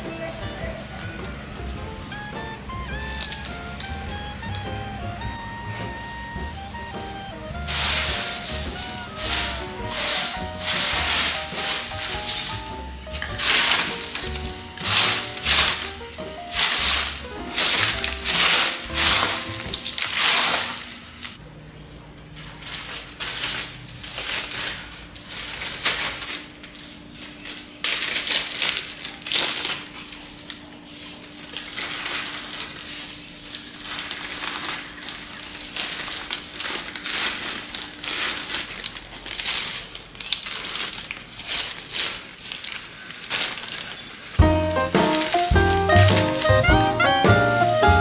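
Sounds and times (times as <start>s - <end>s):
plastic bag crinkling: 3.0s - 3.9s, 7.5s - 21.4s, 22.3s - 47.2s
dry leaves rustling and crackling: 3.0s - 21.4s, 22.3s - 48.0s.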